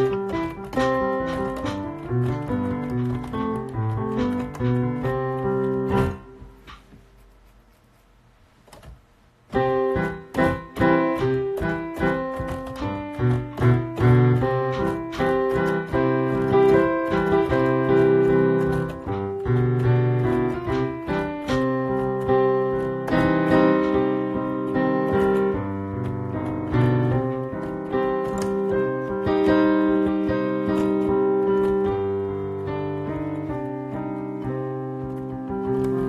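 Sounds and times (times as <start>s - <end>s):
piano playing: 0.0s - 8.0s, 8.7s - 36.0s.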